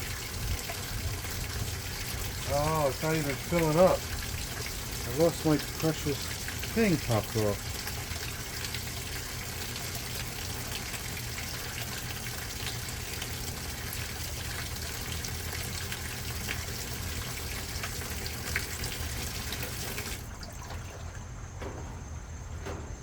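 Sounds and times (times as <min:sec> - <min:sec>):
water rushing into washing machine: 0:00.0 - 0:23.0.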